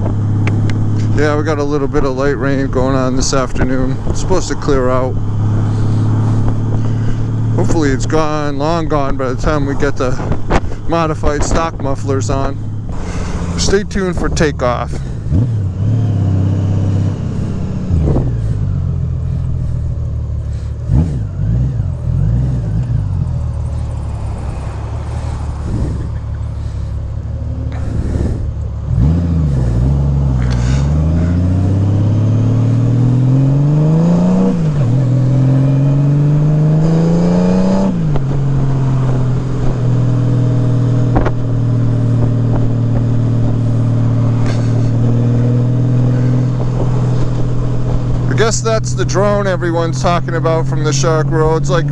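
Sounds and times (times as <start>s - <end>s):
motorcycle engine accelerating: 0.0s - 51.9s
motorcycle engine droning: 0.0s - 51.9s.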